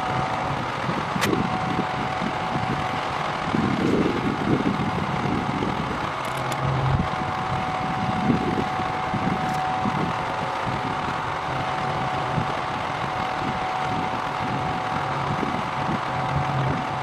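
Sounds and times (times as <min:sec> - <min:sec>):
heavy truck engine running: 0:00.0 - 0:17.0
high whine: 0:00.0 - 0:17.0.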